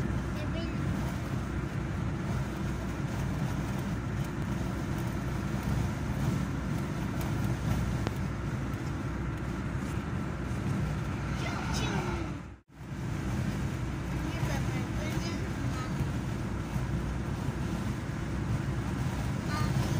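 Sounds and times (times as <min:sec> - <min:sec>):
car cabin road noise rumble: 0:00.0 - 0:19.9.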